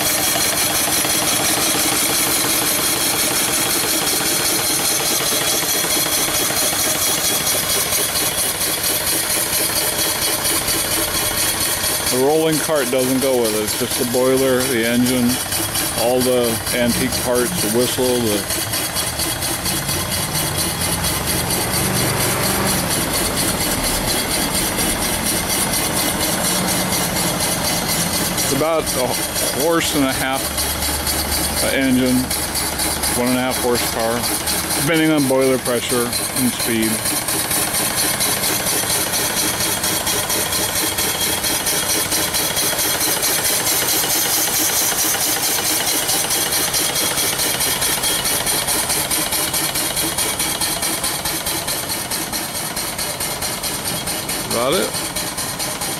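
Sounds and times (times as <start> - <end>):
steam engine exhaust beat: 0.0 - 55.9
steam hissing: 0.0 - 55.9.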